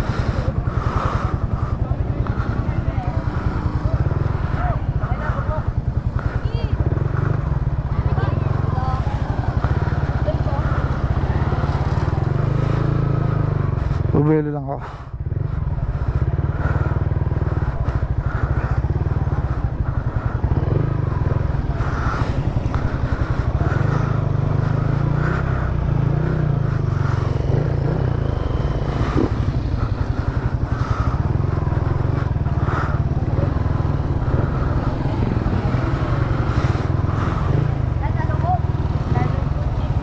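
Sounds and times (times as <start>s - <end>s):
engine droning: 0.0s - 40.0s.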